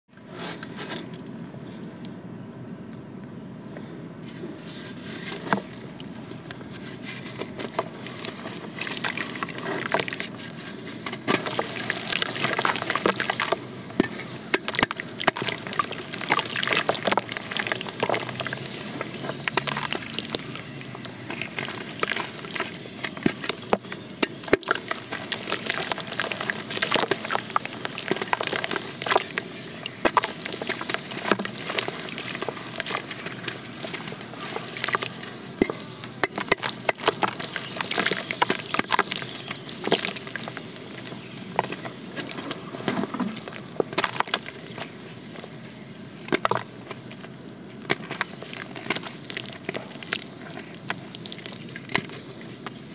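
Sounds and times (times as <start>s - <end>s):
wet dirt crumbling in water: 7.4s - 45.5s, 46.2s - 52.9s.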